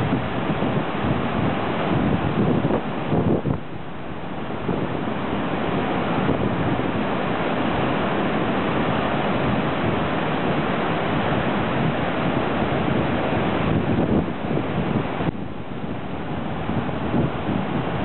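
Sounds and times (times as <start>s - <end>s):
heavy surf breaking: 0.0s - 18.0s.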